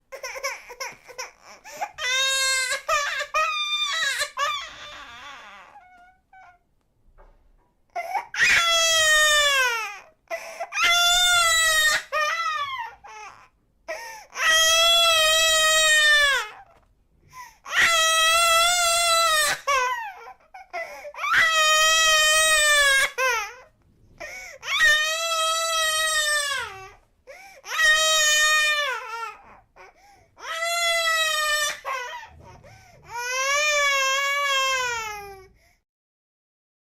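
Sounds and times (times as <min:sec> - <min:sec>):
baby crying: 0:00.1 - 0:06.6, 0:07.9 - 0:35.5.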